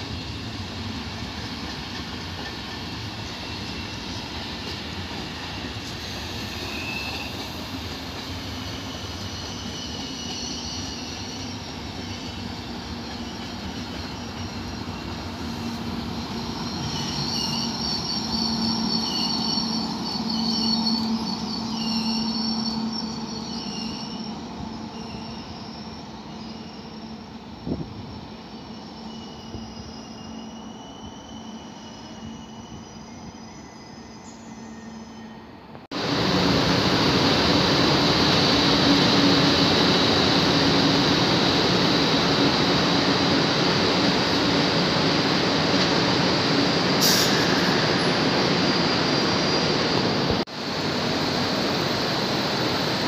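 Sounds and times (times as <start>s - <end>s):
train wheels rumbling on track: 0.0s - 34.1s, 34.7s - 53.0s
high wheel squeal: 0.0s - 35.7s, 37.6s - 50.5s.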